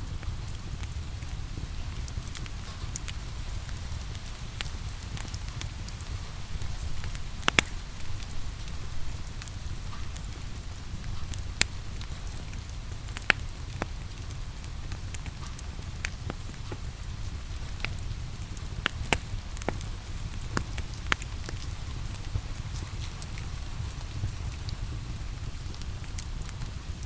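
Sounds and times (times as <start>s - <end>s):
rain hissing: 0.0s - 27.0s
wood fire crackling: 0.0s - 27.0s.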